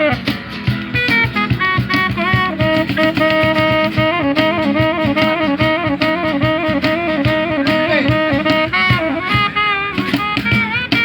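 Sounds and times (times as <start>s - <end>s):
steady drum beat: 0.0s - 11.0s
wavering lead melody: 0.0s - 11.0s.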